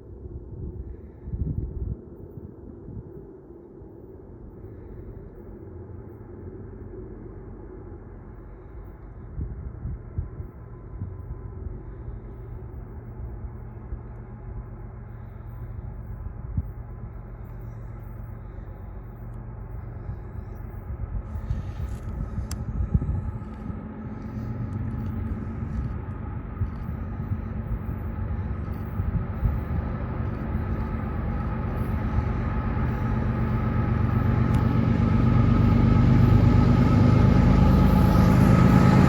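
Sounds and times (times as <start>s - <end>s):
diesel locomotives rumbling: 4.5s - 39.0s.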